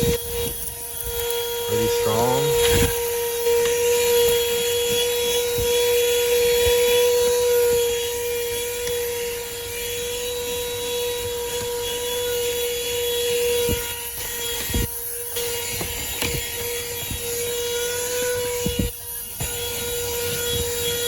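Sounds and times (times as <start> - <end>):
handheld vacuum motor whine: 0.0 - 21.0.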